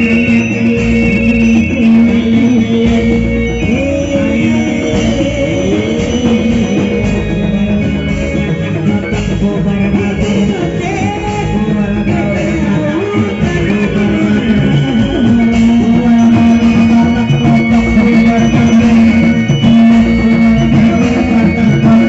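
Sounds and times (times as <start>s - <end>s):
person singing: 0.0s - 22.0s
traditional ensemble music: 0.0s - 22.0s.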